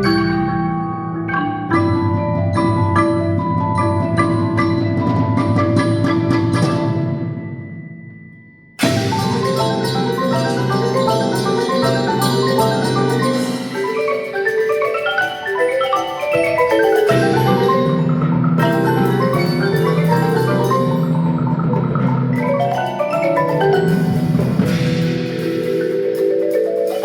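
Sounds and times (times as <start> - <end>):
percussion ensemble playing: 0.0 - 27.0.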